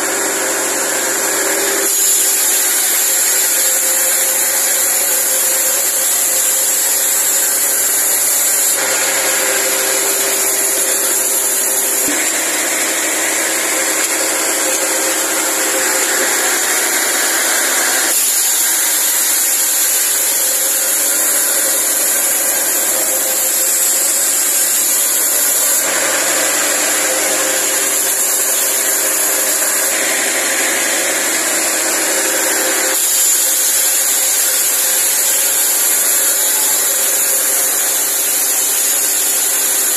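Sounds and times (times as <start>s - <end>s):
band saw sawing log: 0.0s - 39.9s.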